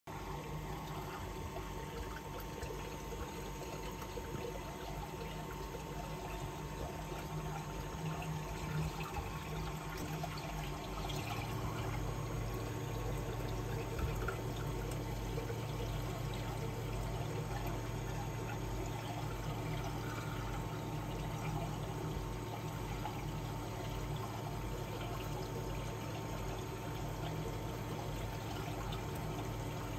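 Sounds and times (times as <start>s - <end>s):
aquarium water flow: 0.1s - 29.9s
pump hum: 0.1s - 29.9s.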